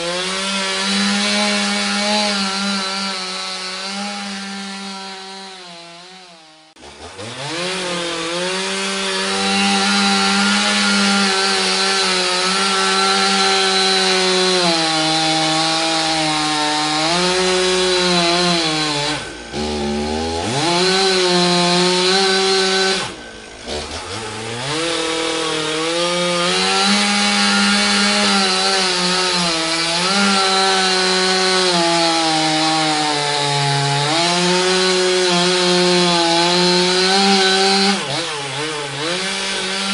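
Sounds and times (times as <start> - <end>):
chainsaw sawing: 0.0 - 39.9.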